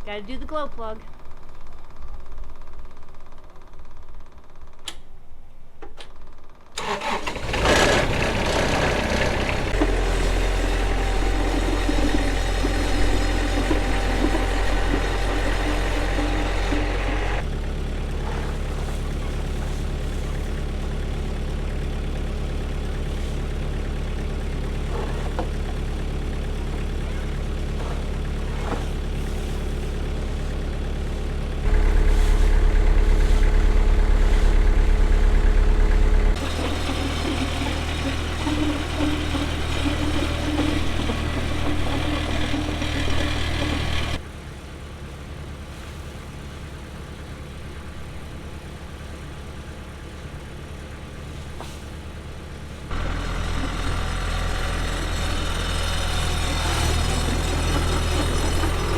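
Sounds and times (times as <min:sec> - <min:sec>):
diesel engine running: 0:00.0 - 0:04.8, 0:06.4 - 0:58.9.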